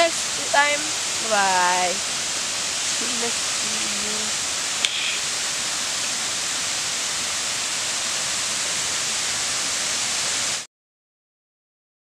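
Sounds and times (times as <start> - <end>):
waterfall rushing: 0.0 - 10.7.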